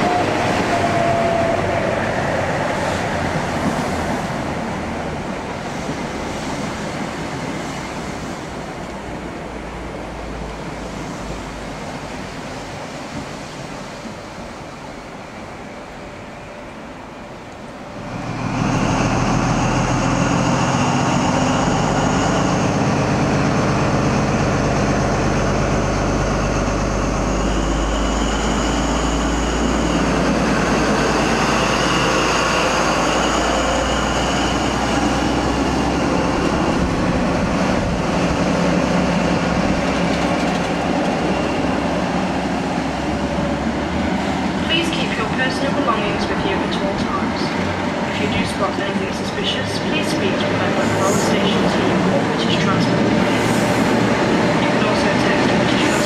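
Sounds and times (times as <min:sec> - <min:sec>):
diesel train engines running: 0:00.0 - 0:56.0.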